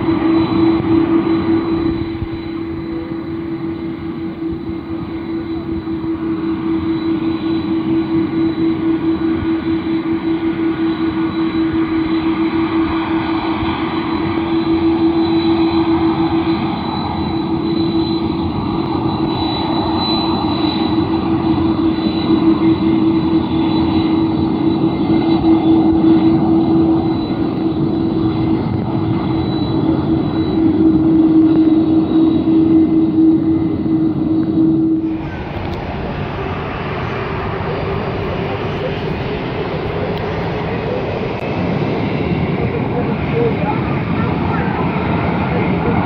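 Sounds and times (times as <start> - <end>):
jet engines droning: 0.0 - 46.0.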